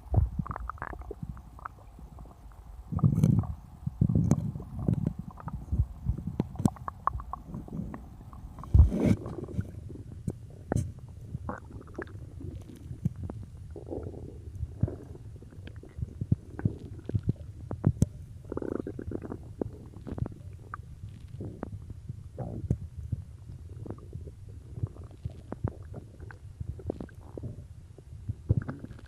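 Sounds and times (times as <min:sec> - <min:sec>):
stomach growling: 0:00.0 - 0:29.0.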